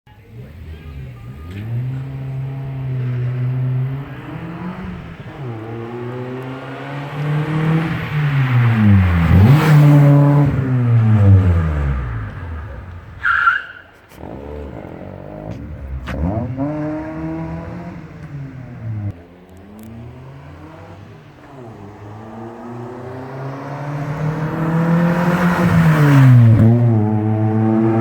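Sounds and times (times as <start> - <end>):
car exhaust revving: 0.2 - 28.0.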